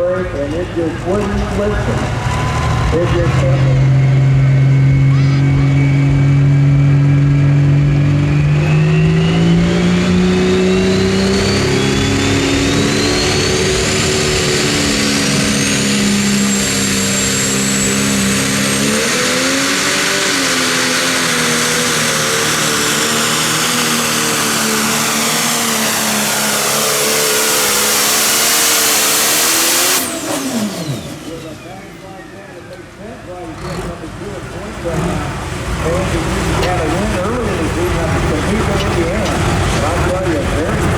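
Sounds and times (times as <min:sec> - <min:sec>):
diesel engine running under load: 0:00.0 - 0:40.9
turbocharger whistle: 0:00.7 - 0:34.0.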